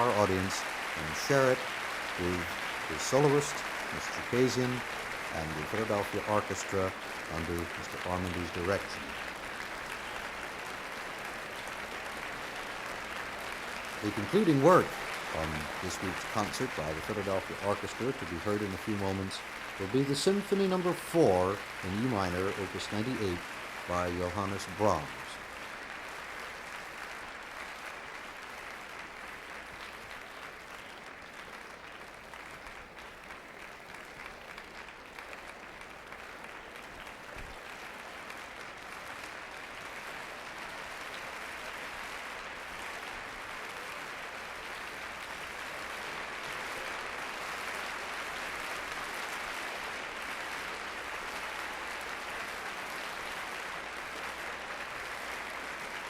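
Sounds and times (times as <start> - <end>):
audience applauding: 0.0 - 56.0.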